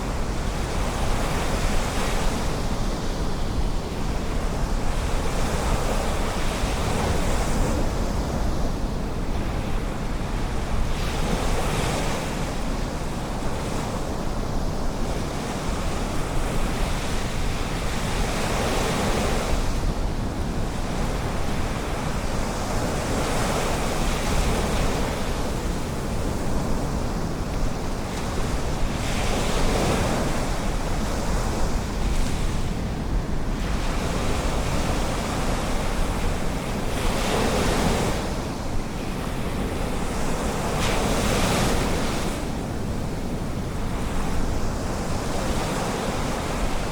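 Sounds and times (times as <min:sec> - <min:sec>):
wind rumble on microphone: 0:00.0 - 0:46.9.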